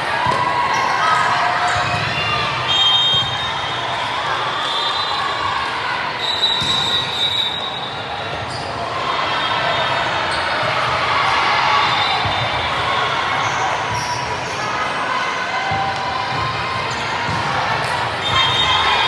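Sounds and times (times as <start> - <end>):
sneakers squeaking: 0.2 - 5.4, 6.2 - 14.8, 16.3 - 19.0.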